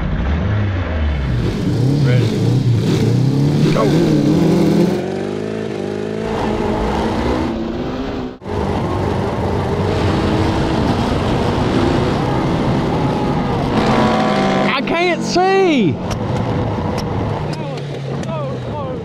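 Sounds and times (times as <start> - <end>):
kart engines at full throttle: 0.0 - 19.0.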